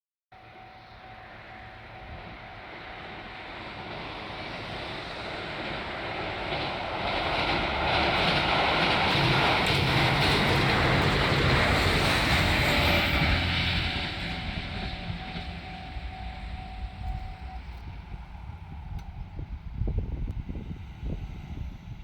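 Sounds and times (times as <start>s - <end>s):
diesel train rumbling: 0.4s - 22.0s.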